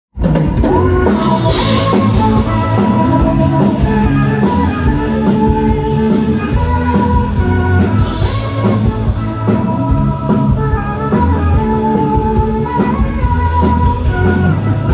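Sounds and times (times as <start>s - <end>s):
rock band playing live: 0.2s - 14.9s.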